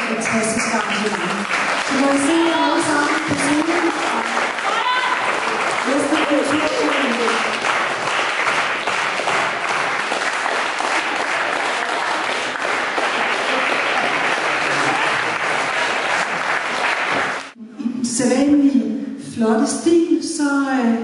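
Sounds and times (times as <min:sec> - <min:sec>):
audience applauding: 0:00.0 - 0:17.6.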